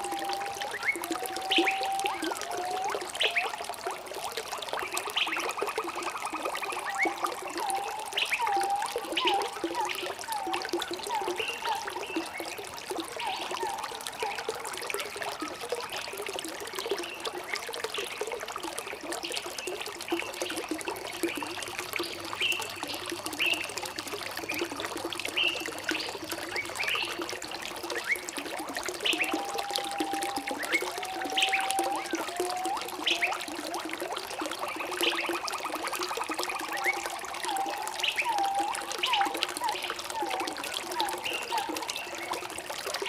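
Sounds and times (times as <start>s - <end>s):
stream trickling and gurgling: 0.0s - 43.0s.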